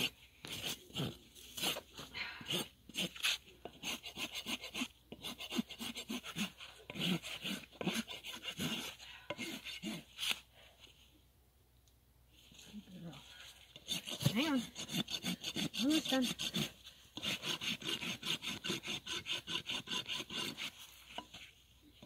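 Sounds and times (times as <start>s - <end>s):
hoof rasp strokes: 0.0s - 10.4s, 13.4s - 22.0s.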